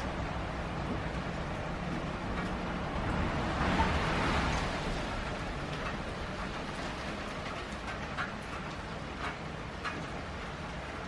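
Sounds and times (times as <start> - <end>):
steady rain falling: 0.0 - 11.0
wind: 0.0 - 11.0.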